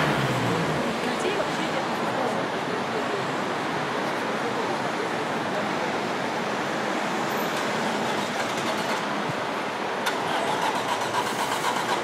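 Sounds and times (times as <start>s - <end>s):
passing cars: 0.0s - 12.0s.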